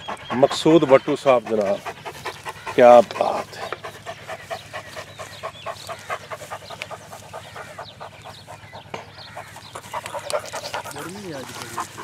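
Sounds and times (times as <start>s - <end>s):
dog panting rapidly: 0.0s - 12.0s.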